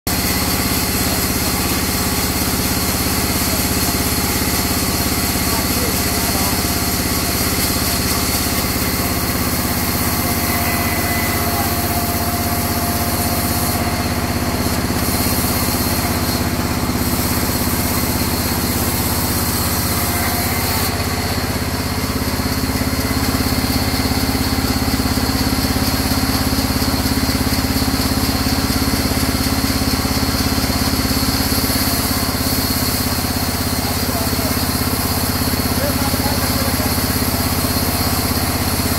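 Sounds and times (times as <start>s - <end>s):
band saw cutting log: 0.1s - 38.9s.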